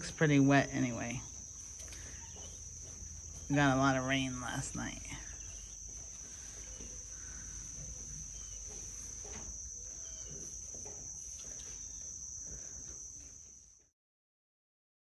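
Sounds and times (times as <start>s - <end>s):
high insect trilling: 0.0s - 13.5s
faint outdoor background noise: 0.0s - 13.9s.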